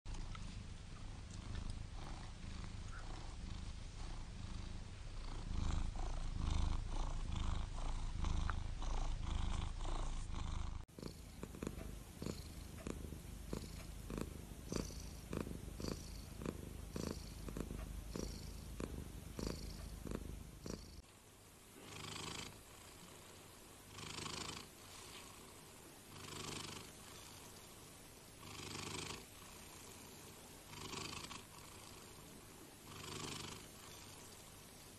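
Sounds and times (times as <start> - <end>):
cats purring: 0.1 - 21.1, 21.7 - 34.9.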